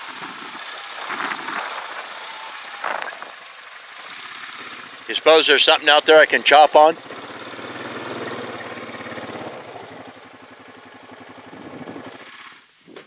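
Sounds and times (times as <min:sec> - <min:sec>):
small engine idling: 0:00.0 - 0:12.9.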